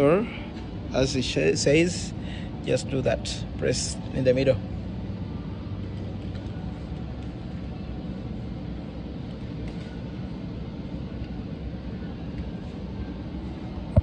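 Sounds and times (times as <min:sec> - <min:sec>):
low room noise rumble: 0:00.0 - 0:14.0.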